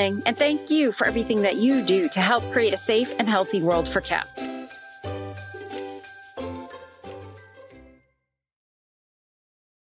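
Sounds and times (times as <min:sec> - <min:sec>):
chiming notes over bass line: 0:00.0 - 0:08.0.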